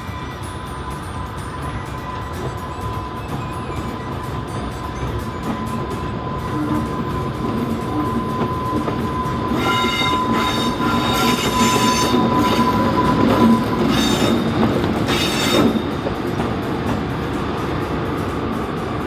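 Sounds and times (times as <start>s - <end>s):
train rumble: 0.0s - 19.0s
train wheels squealing: 0.0s - 19.0s.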